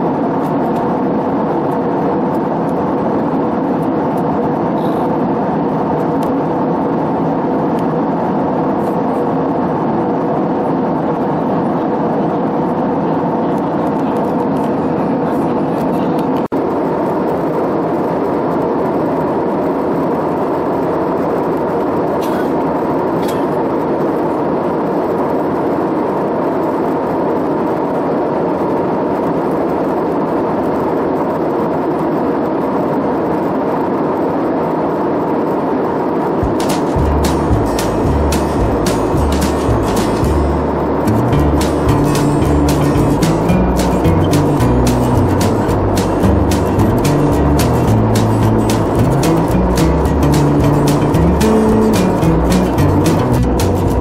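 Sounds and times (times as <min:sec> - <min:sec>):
airliner cabin engine hum: 0:00.0 - 0:54.0.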